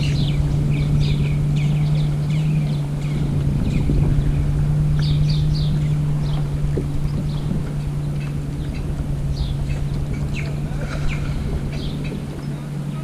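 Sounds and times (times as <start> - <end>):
motor humming: 0.0 - 13.0
small birds chirping: 0.0 - 13.0.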